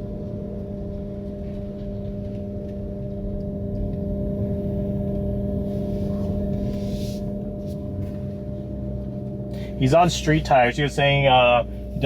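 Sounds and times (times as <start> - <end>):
engine idling hum: 0.0 - 12.0
low rumble: 0.0 - 12.0.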